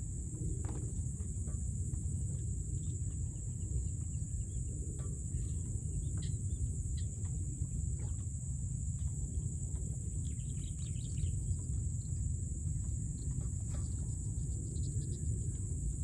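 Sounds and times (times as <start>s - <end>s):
high insect drone: 0.0s - 16.0s
wind rumble on microphone: 0.0s - 16.0s.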